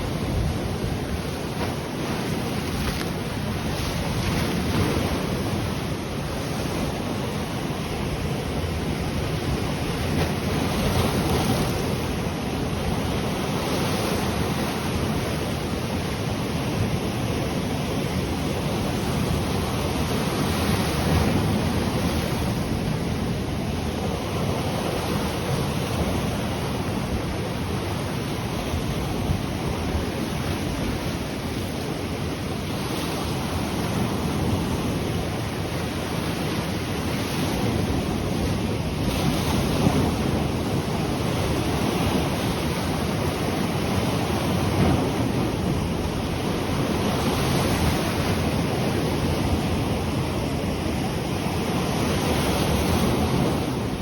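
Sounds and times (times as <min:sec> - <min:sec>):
ocean waves breaking on shore: 0:00.0 - 0:54.0
wind on microphone: 0:00.0 - 0:54.0.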